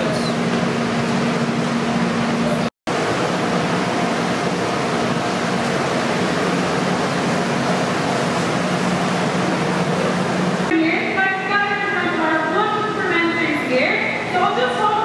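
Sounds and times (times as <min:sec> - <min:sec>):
machinery rushing and humming: 0:00.0 - 0:15.0.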